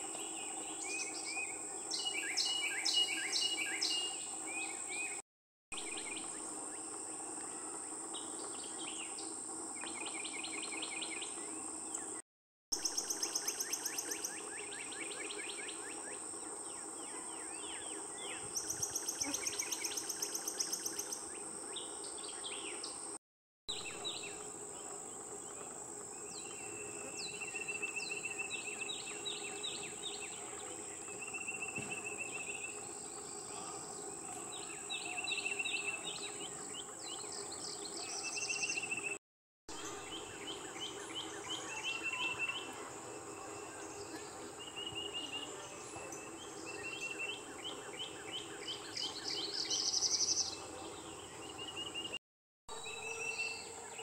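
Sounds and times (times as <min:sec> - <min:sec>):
songbird singing: 0:00.0 - 0:05.2, 0:05.8 - 0:12.2, 0:12.8 - 0:54.0.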